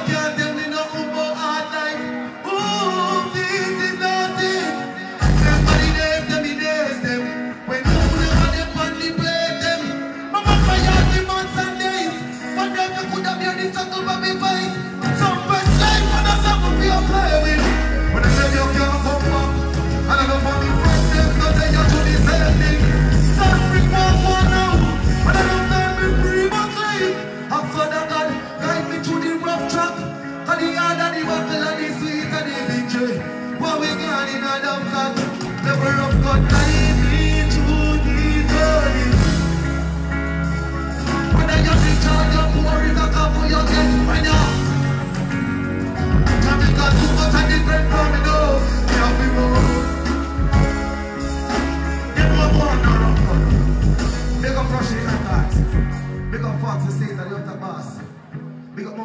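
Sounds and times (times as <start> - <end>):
loud dancehall music: 0.0 - 56.6
vocalist on microphone: 0.0 - 59.0.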